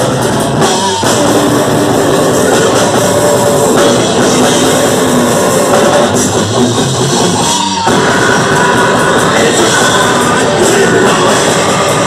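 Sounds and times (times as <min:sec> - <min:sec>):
bass guitar: 0:00.0 - 0:12.0
distorted electric guitar: 0:00.0 - 0:12.0
drum kit: 0:00.0 - 0:12.0.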